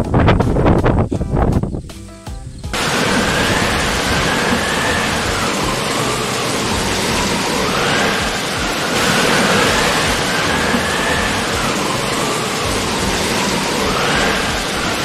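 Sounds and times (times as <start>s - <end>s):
faint high wind whistle: 0.0s - 15.0s
storm wind on microphone: 0.0s - 15.0s.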